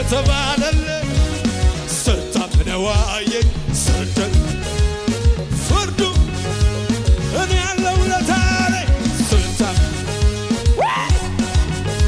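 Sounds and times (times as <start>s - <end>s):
gospel band playing: 0.0s - 12.0s.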